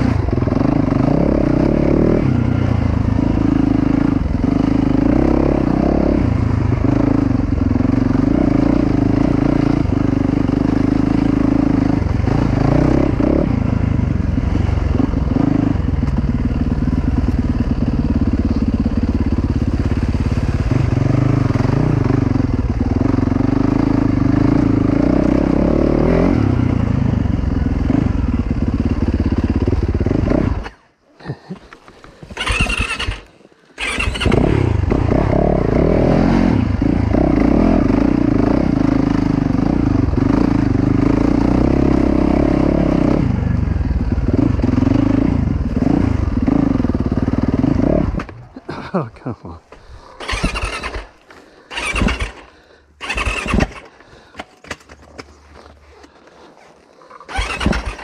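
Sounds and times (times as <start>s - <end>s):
dirt bike engine revving: 0.0s - 30.8s, 32.2s - 49.1s, 50.0s - 54.3s, 57.2s - 58.0s.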